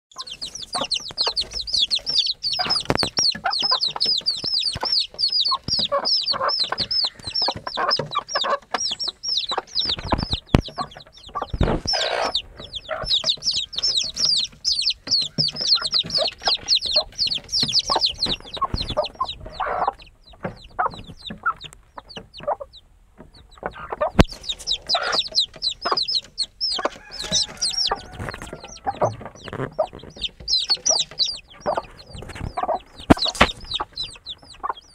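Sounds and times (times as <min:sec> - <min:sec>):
chicks peeping: 0:00.1 - 0:34.9
hen clucking: 0:00.1 - 0:34.9.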